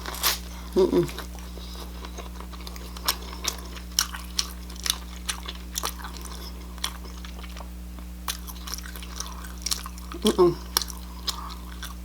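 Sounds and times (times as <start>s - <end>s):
faint steady hum: 0.0s - 12.0s
wet chewing clicks and crunches: 0.0s - 12.0s.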